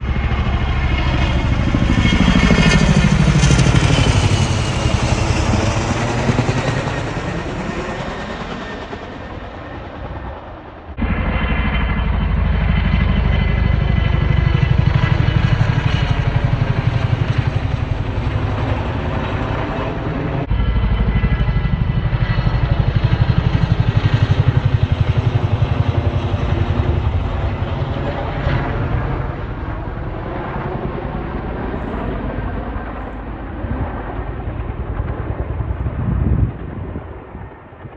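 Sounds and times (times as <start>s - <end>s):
helicopter flying past: 0.0s - 37.9s.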